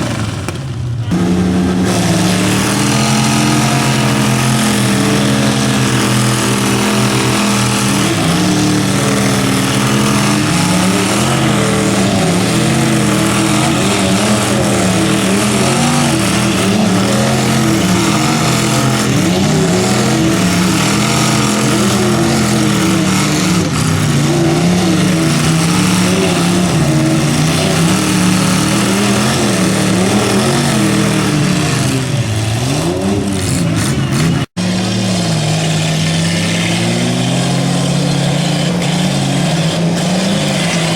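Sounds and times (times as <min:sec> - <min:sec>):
pickup truck engines under load: 0:00.0 - 0:40.9.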